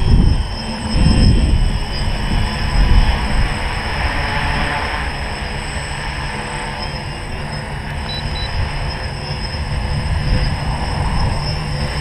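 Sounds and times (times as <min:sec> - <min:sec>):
drone motors and propellers buzzing: 0:00.0 - 0:12.0.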